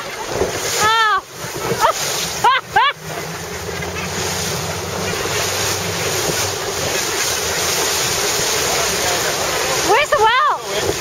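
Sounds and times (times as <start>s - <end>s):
boat engine hum: 0.0s - 11.0s
water rushing past boat: 0.0s - 11.0s.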